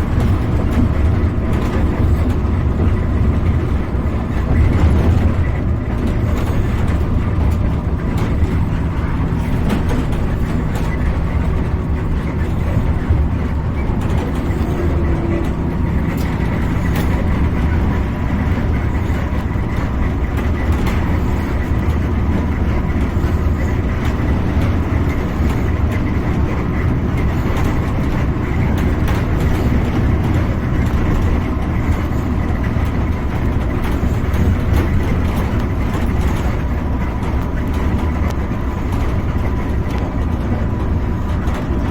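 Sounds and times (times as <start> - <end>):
engine hum: 0.0 - 41.9
tyre and road noise: 0.0 - 41.9.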